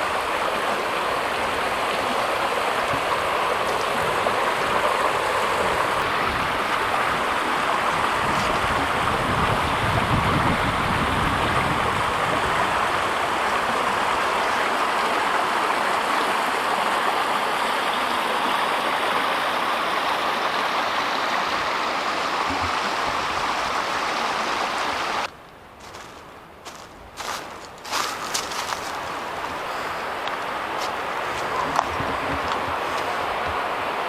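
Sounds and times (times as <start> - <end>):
flowing water rushing: 0.0 - 34.0.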